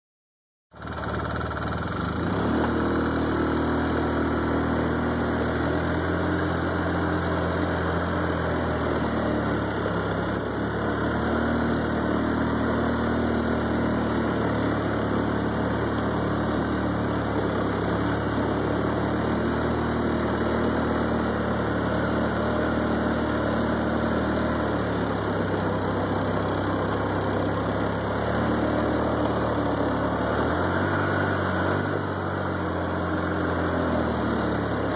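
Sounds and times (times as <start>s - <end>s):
atv engine running: 0.8s - 34.9s.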